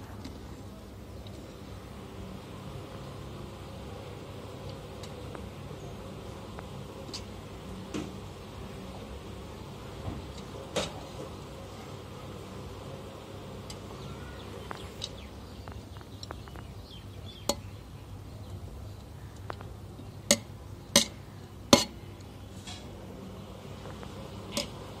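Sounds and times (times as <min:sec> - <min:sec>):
steady low background noise: 0:00.0 - 0:25.0.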